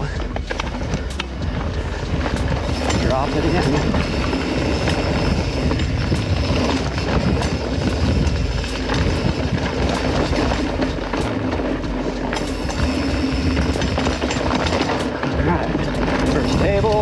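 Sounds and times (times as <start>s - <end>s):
bike clicks and rattles: 0.0s - 17.0s
tyre and wind rumble: 0.0s - 17.0s.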